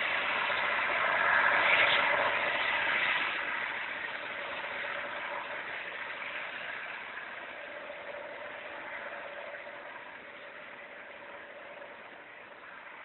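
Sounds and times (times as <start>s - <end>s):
distant freight train rolling past: 0.0s - 13.0s
faint steady whine: 0.0s - 13.0s.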